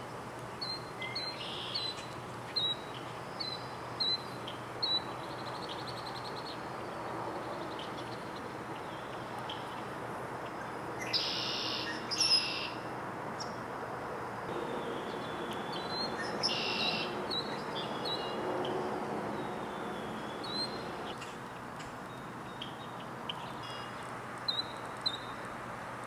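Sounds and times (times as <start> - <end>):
outdoor background noise: 0.0 - 26.0
birds calling: 0.6 - 12.8, 14.5 - 25.4.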